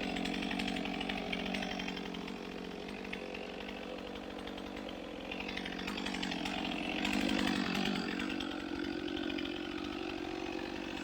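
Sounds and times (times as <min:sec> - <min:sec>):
chainsaw running: 0:00.0 - 0:11.0.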